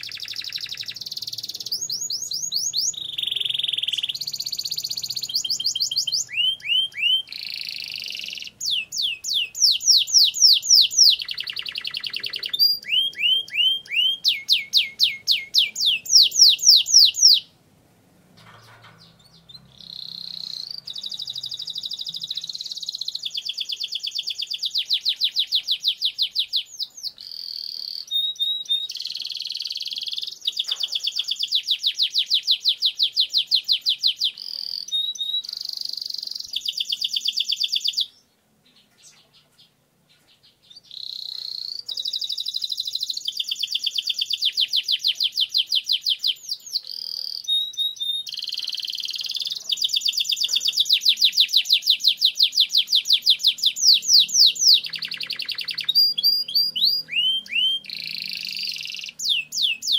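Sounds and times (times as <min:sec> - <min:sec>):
canary singing trills: 0:00.0 - 0:17.6, 0:18.4 - 0:59.9.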